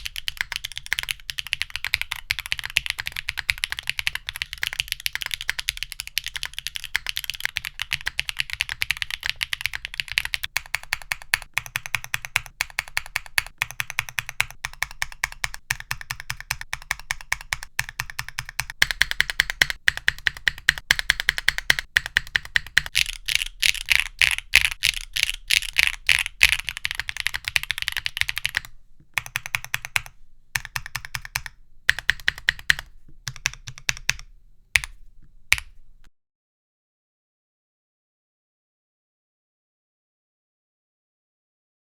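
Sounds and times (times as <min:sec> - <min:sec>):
typing on mechanical keyboard: 0:00.0 - 0:35.8.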